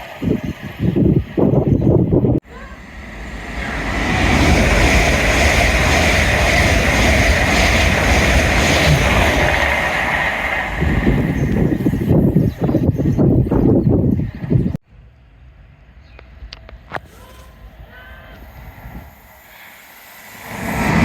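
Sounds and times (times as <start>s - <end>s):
train passing at speed: 0.0s - 16.0s, 17.6s - 21.0s.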